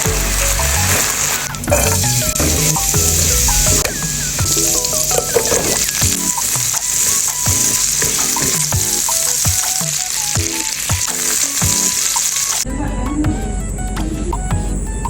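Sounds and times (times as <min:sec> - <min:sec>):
food sizzling in stir-fry: 0:00.0 - 0:12.6
music with a regular beat: 0:00.0 - 0:15.0.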